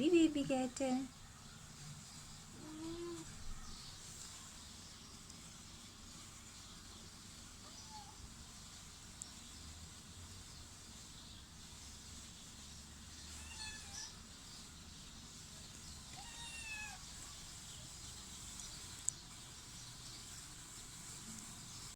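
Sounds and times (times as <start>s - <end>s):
background hiss: 0.0s - 21.9s.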